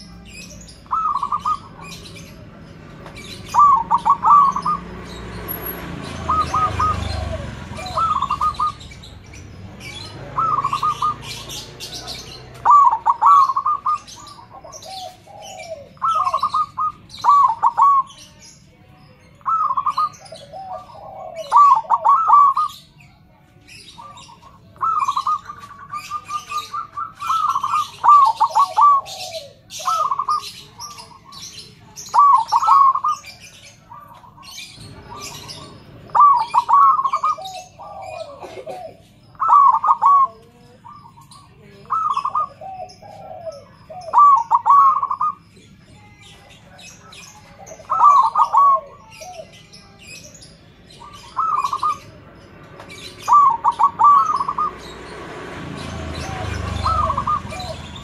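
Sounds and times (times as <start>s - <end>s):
dove cooing: 0.0s - 18.3s, 19.4s - 23.1s, 23.7s - 58.0s
birds chirping: 0.0s - 58.0s.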